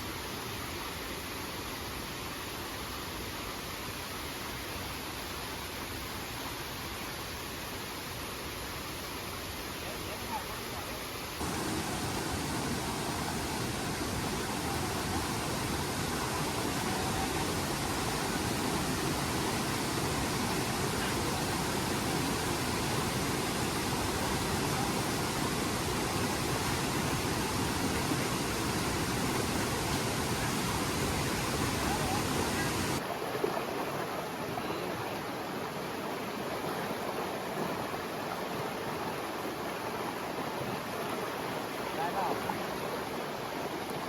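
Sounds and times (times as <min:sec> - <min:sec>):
water rushing: 0:00.0 - 0:44.0.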